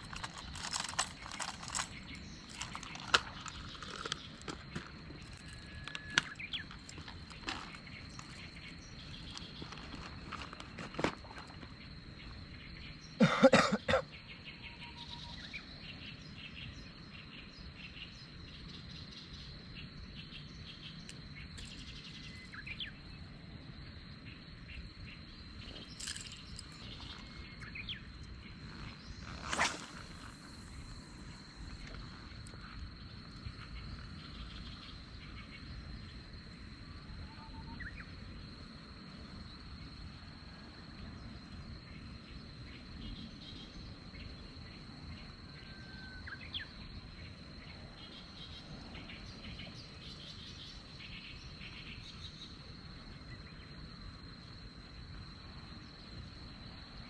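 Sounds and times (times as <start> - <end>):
crickets trilling: 0.0 - 57.0
low outdoor hum: 0.0 - 57.0.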